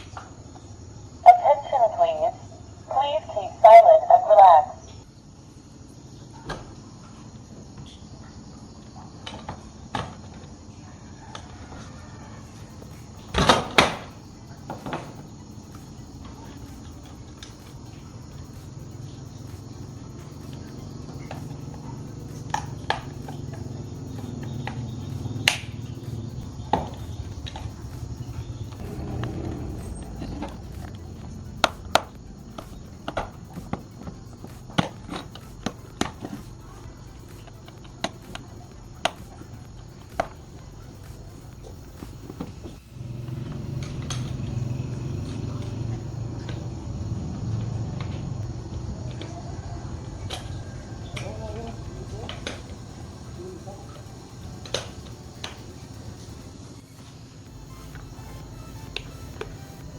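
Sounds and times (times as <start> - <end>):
steady low hum: 10.5 - 59.9.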